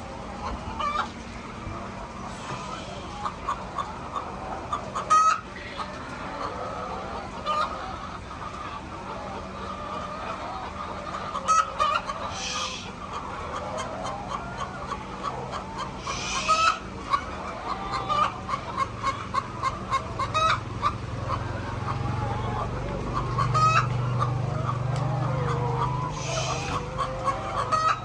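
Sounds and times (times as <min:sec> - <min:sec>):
chickens clucking: 0:00.0 - 0:28.0
chicken squawks: 0:02.3 - 0:22.7, 0:23.3 - 0:28.0.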